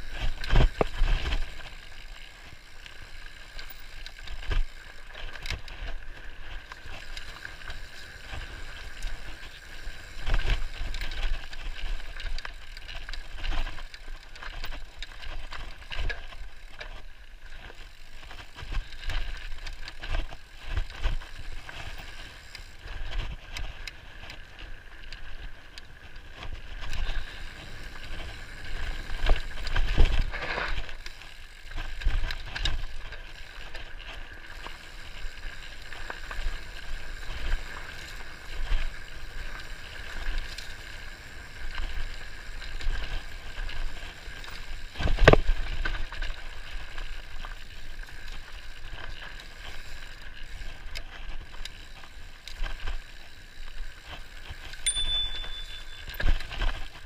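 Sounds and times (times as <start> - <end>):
bicycle tyre and wind rush: 0.0 - 57.0
bike rattling over bumps: 0.0 - 57.0.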